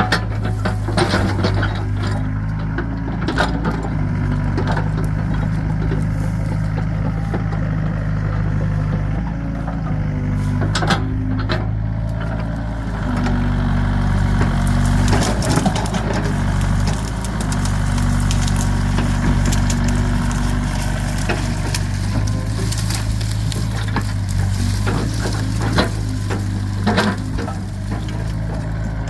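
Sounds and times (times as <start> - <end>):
wood cracking and snapping: 0.0 - 10.4, 11.0 - 29.0
excavator engine running: 0.0 - 29.0.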